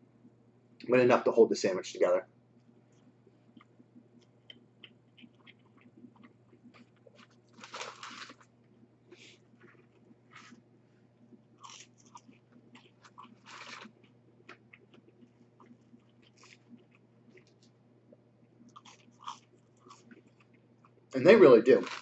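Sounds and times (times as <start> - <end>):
person chewing and crunching: 3.0 - 10.6, 11.2 - 22.0.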